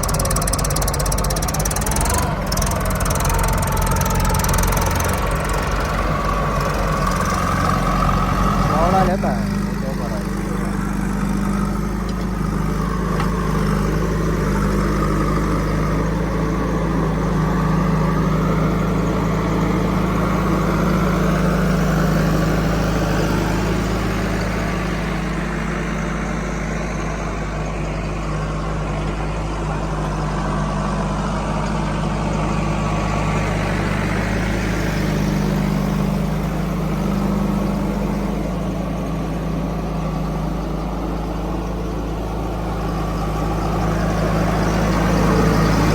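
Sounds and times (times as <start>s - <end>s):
diesel engine of heavy machinery: 0.0s - 45.9s.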